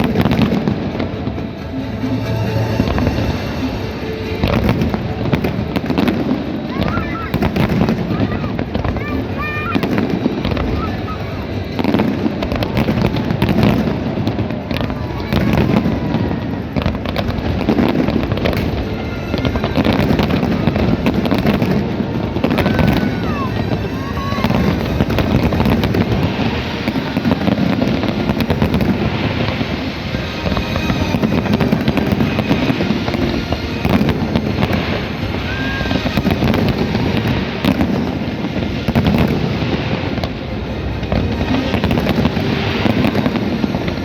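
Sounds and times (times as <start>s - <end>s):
fireworks whistles: 0.0s - 1.4s, 2.1s - 44.0s
fireworks bangs and crackles: 0.0s - 44.0s.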